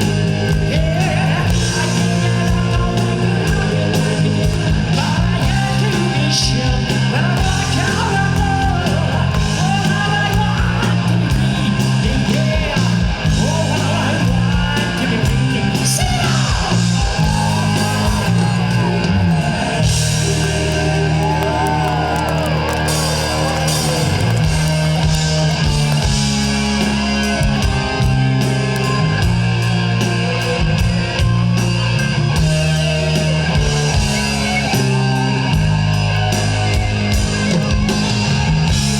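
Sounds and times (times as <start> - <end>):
live rock band playing: 0.0 - 38.9
low bass notes: 0.0 - 38.9.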